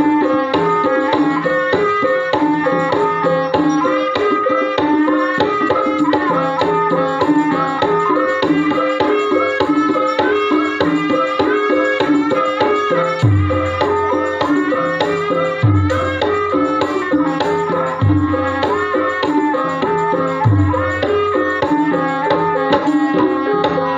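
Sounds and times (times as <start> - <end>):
hand drum beats: 0.0 - 23.9
metal percussion melody: 0.0 - 23.9.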